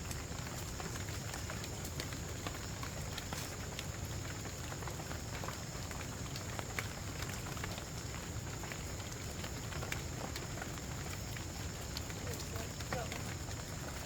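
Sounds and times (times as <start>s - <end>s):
raindrops ticking close by: 0.0s - 14.0s
steady rain: 0.0s - 14.0s.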